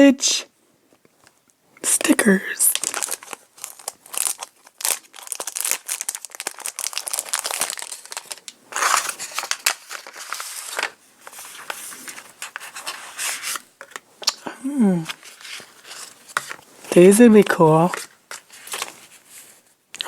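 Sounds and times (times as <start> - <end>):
packaging crinkling and rustling: 2.0 - 14.4, 15.1 - 19.7.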